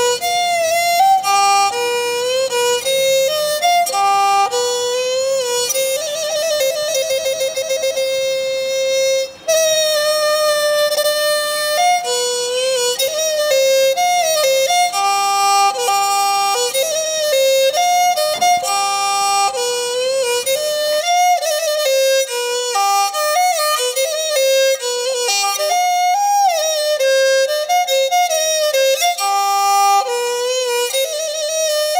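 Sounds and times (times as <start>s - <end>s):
bowed string melody: 0.0s - 31.9s.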